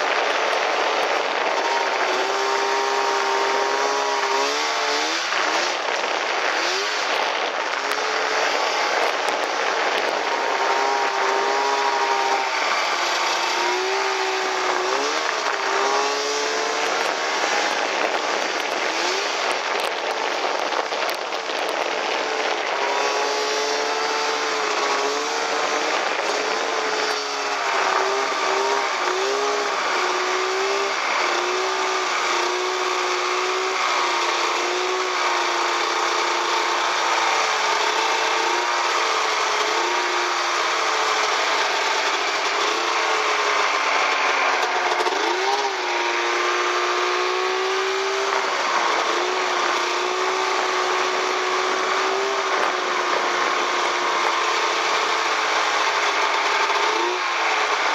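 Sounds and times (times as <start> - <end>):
hiss of track in snow: 0.0 - 57.9
snow bike engine revving: 0.0 - 57.9.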